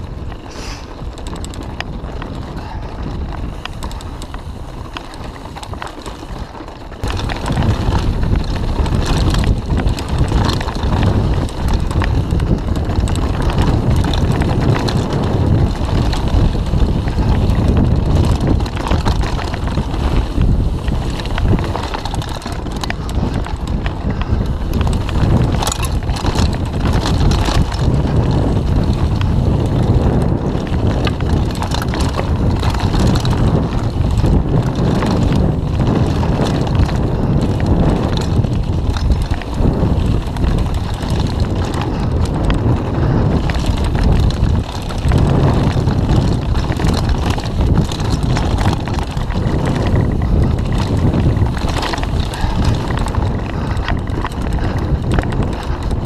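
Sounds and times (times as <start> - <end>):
bike rattling over bumps: 0.0 - 56.0
bike tyres on dirt: 0.0 - 56.0
wind buffeting microphone: 0.0 - 56.0.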